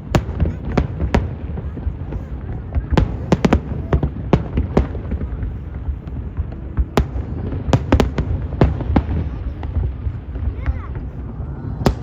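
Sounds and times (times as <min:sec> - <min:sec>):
fireworks cracking and banging: 0:00.0 - 0:12.0.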